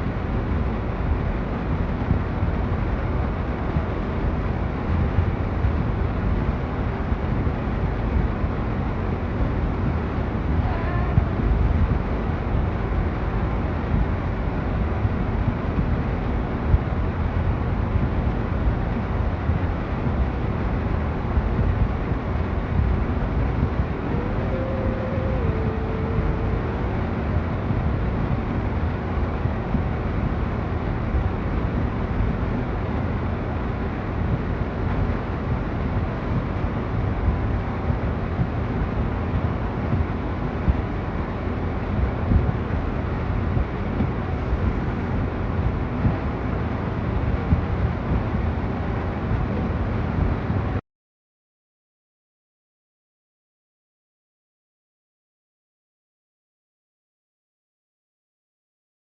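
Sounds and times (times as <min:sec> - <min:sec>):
storm wind buffeting microphone: 0:00.0 - 0:50.8.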